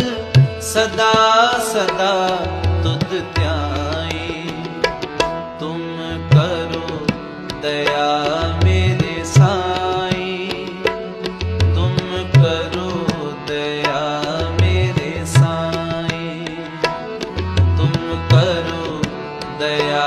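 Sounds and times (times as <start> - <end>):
devotional song melody: 0.0 - 20.0
tabla: 0.0 - 20.0.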